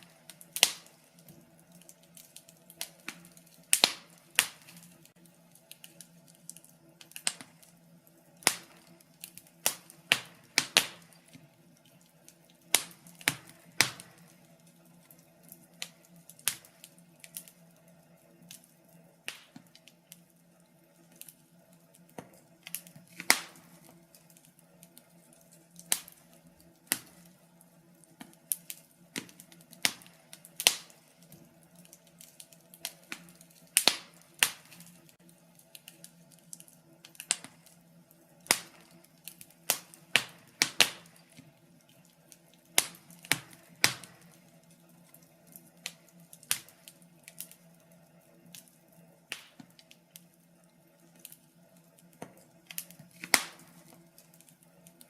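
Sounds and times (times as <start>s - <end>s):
sharp pops of fire: 0.0s - 7.8s, 8.4s - 17.6s, 18.4s - 20.3s, 21.1s - 27.4s, 28.0s - 37.8s, 38.4s - 47.7s, 49.3s - 50.3s, 52.0s - 55.0s
wood fire crackling: 0.0s - 55.0s.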